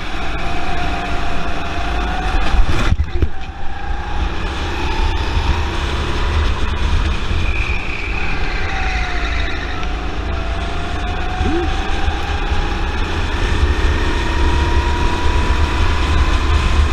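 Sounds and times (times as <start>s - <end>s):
wind rumble on microphone: 0.0s - 7.8s, 9.8s - 16.9s
go-kart engine revving: 0.0s - 16.9s.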